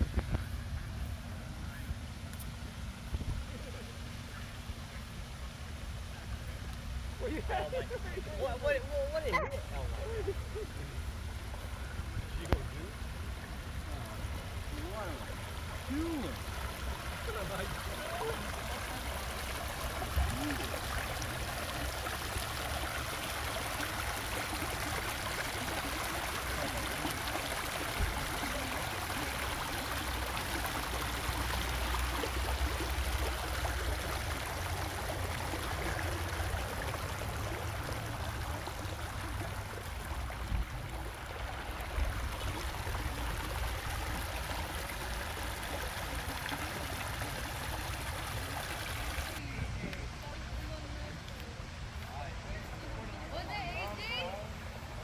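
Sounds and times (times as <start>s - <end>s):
brook babbling over stones: 0.0s - 55.0s.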